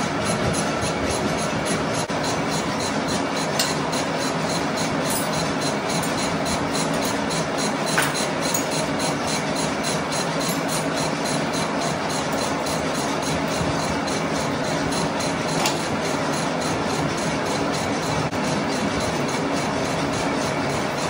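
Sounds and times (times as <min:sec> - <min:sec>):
lathe cutting metal: 0:00.0 - 0:21.0.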